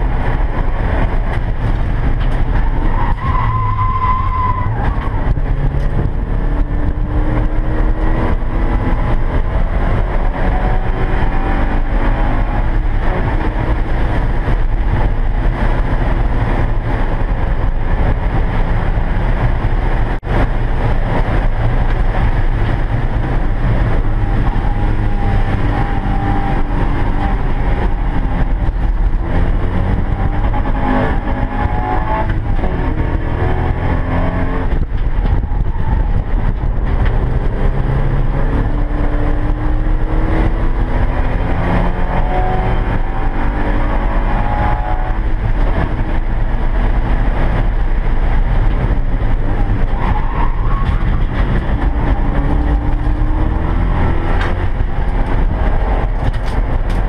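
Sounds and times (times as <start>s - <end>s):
race car engine revving: 0.0s - 57.0s
wind and road noise: 0.0s - 57.0s.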